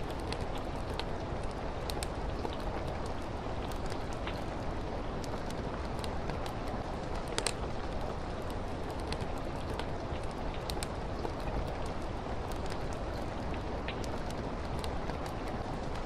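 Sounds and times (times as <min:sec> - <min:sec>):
fireplace crackling: 0:00.0 - 0:16.0
steady rain: 0:00.0 - 0:16.0.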